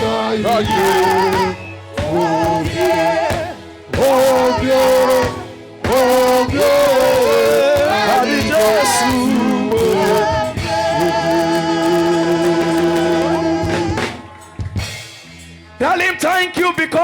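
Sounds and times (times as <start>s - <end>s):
gospel worship singing: 0.0s - 17.0s
musical accompaniment: 0.0s - 17.0s.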